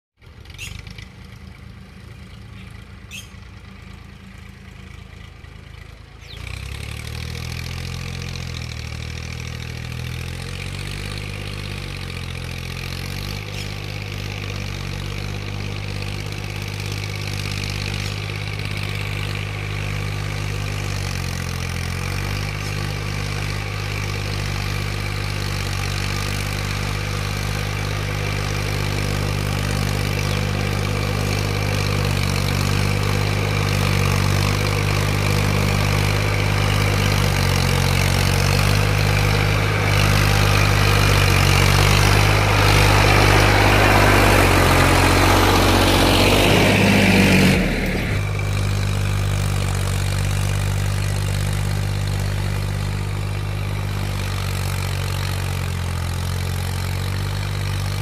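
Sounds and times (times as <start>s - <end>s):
tractor diesel engine running: 0.2s - 58.0s.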